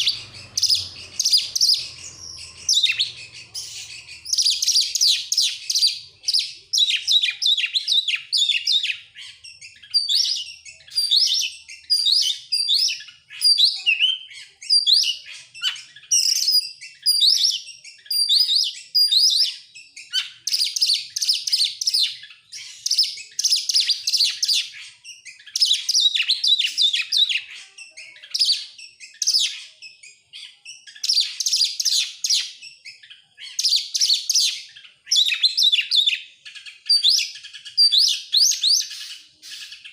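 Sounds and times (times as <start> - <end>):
bird singing rapid varied song: 0.0 - 39.9.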